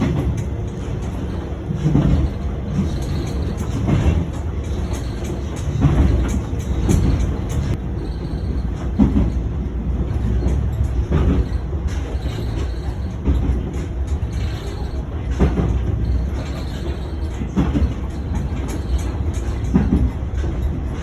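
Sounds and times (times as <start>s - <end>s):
railcar engine rumble: 0.0s - 21.0s
wheels thudding over rail joints: 0.0s - 21.0s.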